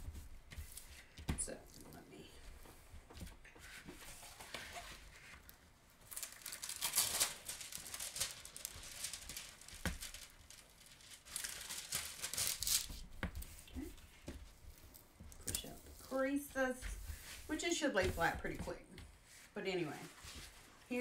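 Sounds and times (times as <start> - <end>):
plastic film crinkling and rustling: 0.2 - 18.7.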